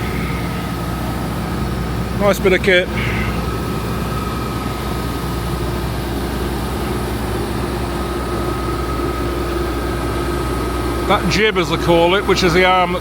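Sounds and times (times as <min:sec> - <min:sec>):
diesel engine droning: 0:00.0 - 0:13.0
thin steady whine: 0:00.0 - 0:13.0.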